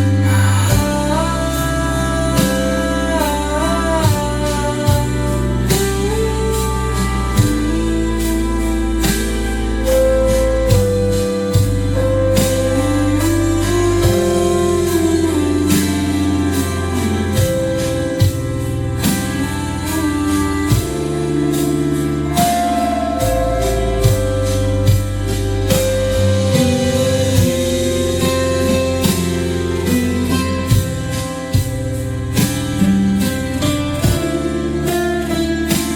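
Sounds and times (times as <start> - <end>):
instrumental music with held melody: 0.0 - 35.9.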